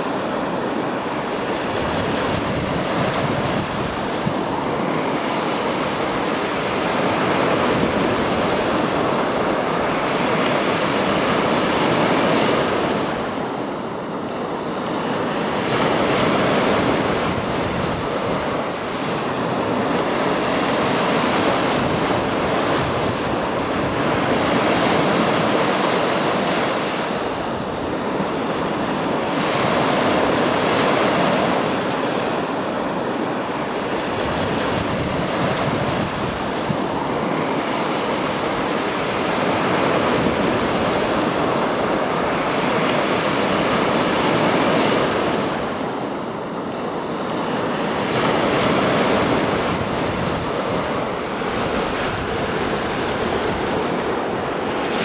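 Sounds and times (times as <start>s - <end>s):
waves washing onto shore: 0.0s - 55.0s.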